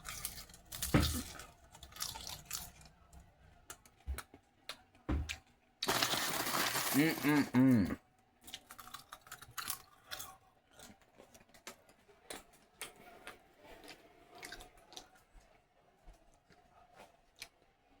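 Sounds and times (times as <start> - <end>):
person chewing popcorn: 0.0 - 18.0.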